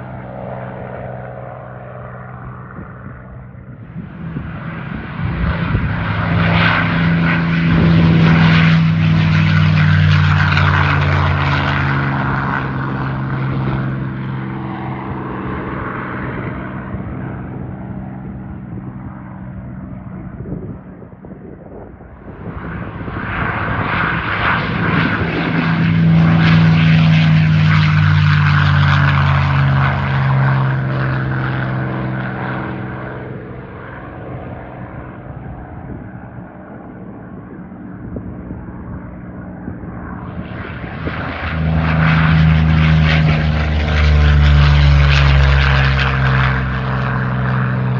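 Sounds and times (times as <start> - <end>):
propeller plane engine flyby: 0.0 - 47.9.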